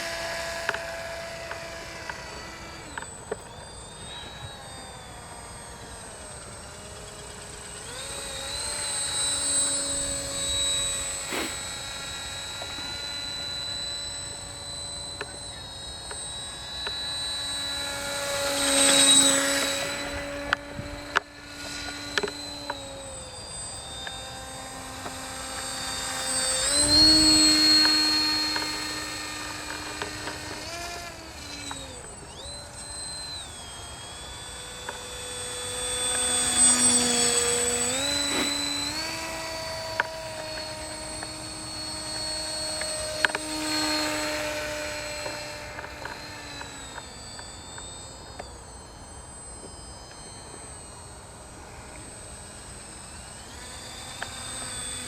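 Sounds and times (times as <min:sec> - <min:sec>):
model aircraft propeller whine: 0:00.0 - 0:55.0.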